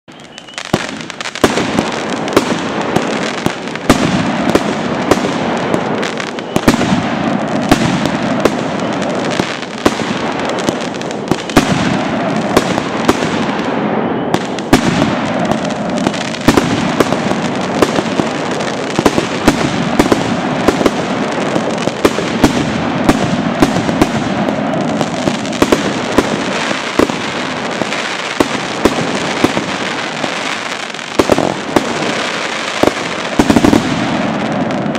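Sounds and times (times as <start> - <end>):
firework crackling: 0.1 - 34.9
firework salute bangs: 0.1 - 34.9
firework launch pops and bursts: 0.3 - 34.9.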